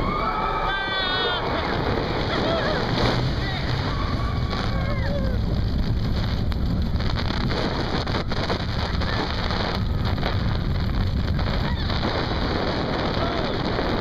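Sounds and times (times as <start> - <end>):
roller coaster wheels rumbling: 0.0 - 14.0
wind buffeting microphone: 0.0 - 14.0.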